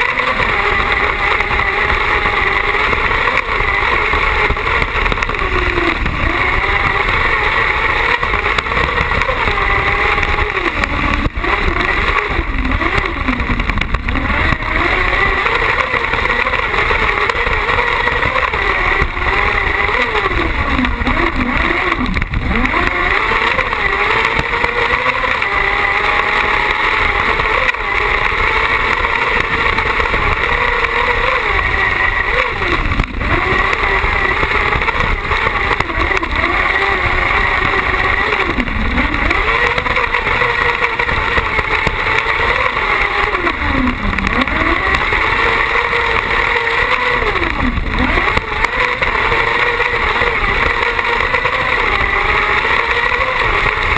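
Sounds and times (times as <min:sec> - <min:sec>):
motorcycle engine revving hard: 0:00.0 - 0:53.9.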